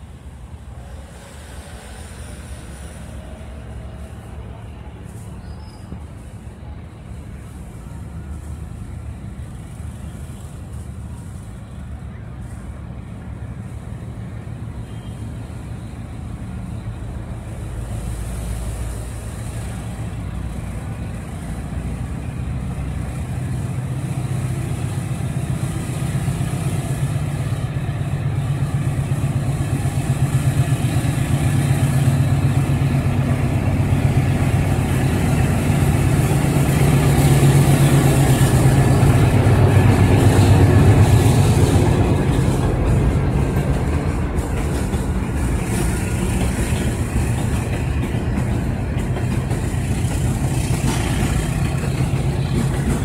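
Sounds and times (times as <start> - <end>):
diesel locomotive engine drone: 0.0 - 53.0
freight train passing: 0.0 - 53.0.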